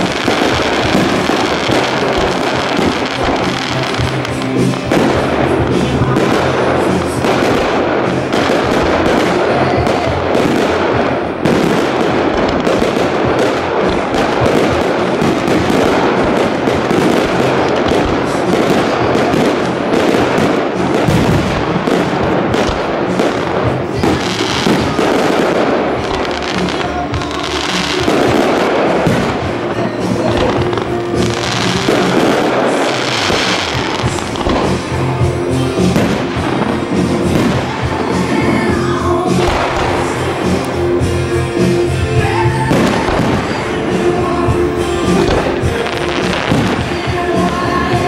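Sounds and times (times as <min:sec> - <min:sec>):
fireworks bursts and bangs: 0:00.0 - 0:48.0
music playing: 0:00.0 - 0:48.0.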